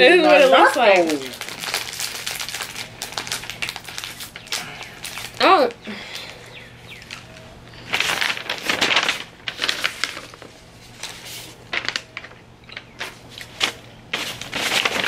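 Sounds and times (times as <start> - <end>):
paper rustling and flapping: 0.3 - 5.5, 7.0 - 15.0.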